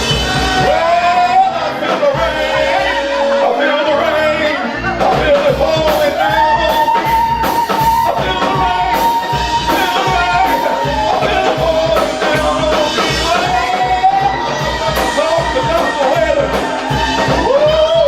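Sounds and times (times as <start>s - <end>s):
gospel band with drums: 0.0s - 18.0s.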